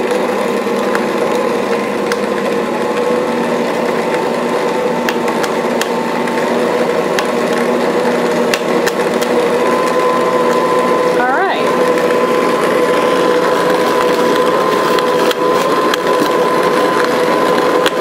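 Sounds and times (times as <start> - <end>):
grain mill motor hum: 0.0 - 18.0.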